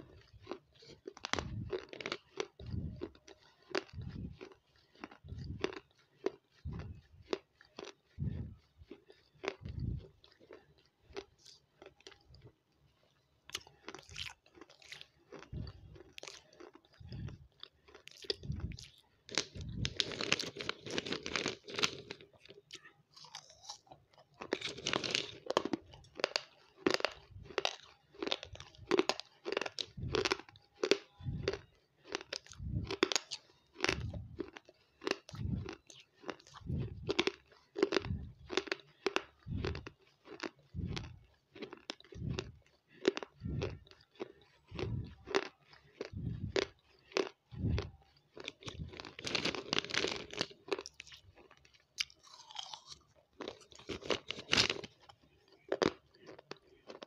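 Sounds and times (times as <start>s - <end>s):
crisp crunching and chewing: 0.0s - 57.0s.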